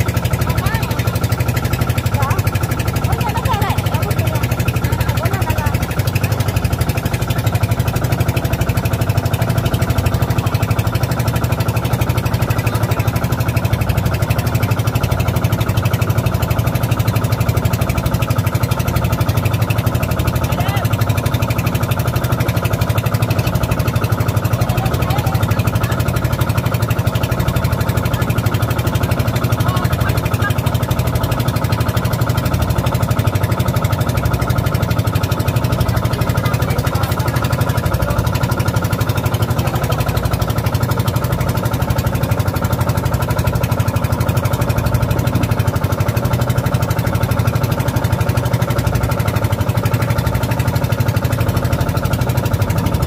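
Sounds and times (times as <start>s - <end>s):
small boat engine idling: 0.0s - 53.0s.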